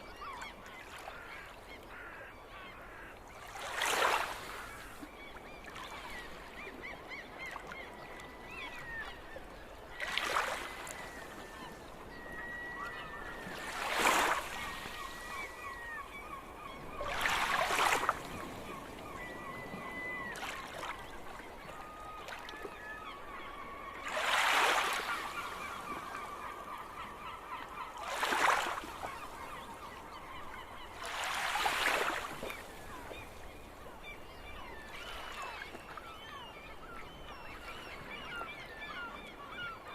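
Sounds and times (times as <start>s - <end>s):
quiet gull calls and trills: 0.0s - 39.9s.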